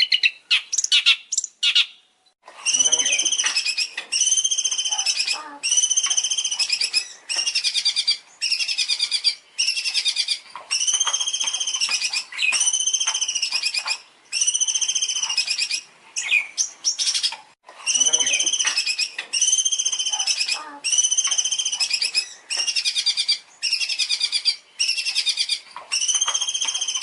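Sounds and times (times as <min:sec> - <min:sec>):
songbird trilling: 0:00.0 - 0:02.0, 0:02.7 - 0:27.0.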